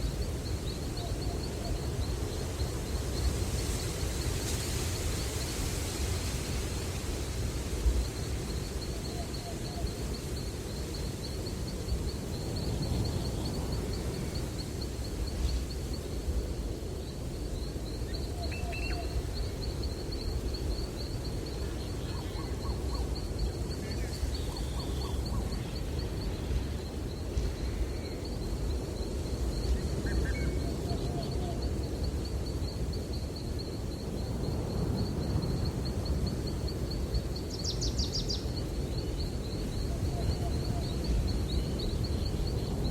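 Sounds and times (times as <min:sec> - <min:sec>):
breeze rustling trees: 0:00.0 - 0:42.9.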